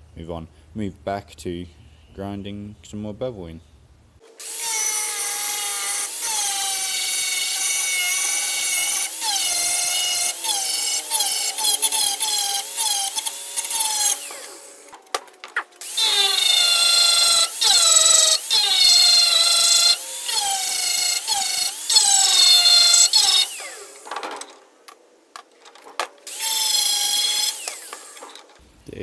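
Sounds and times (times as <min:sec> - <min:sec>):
power grinder grinding steel: 0:04.2 - 0:28.6.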